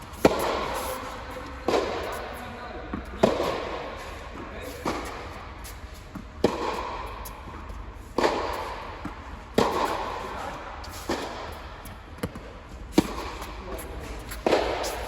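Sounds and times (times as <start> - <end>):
tennis ball bouncing: 0.0 - 15.0
tennis ball struck by racquet: 0.0 - 15.0.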